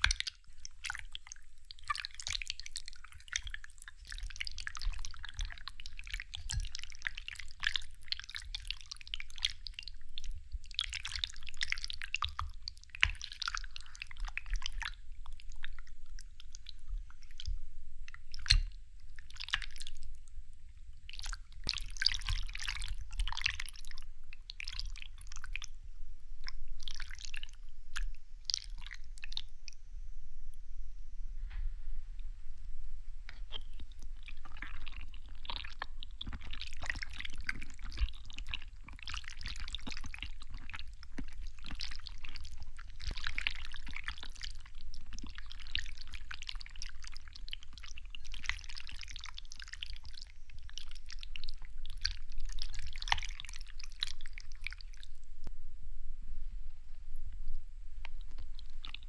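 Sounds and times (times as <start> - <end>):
wet squishy jelly sounds: 0.0 - 29.8, 33.1 - 55.5, 57.1 - 59.0.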